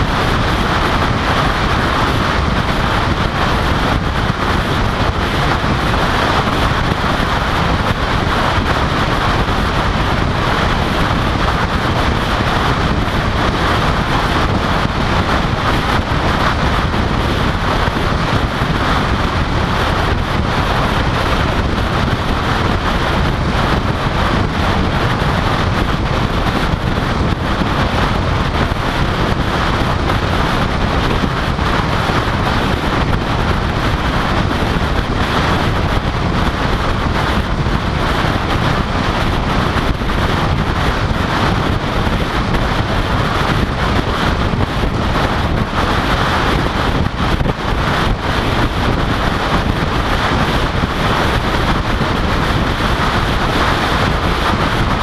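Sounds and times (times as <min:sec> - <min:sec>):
wind roaring over microphone: 0:00.0 - 0:55.0.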